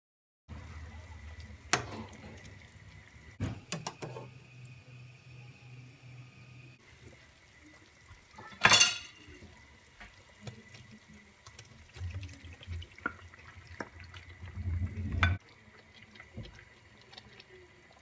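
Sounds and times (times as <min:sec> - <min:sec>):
water gushing into sink: 0:00.5 - 0:18.0
water running: 0:00.5 - 0:18.0.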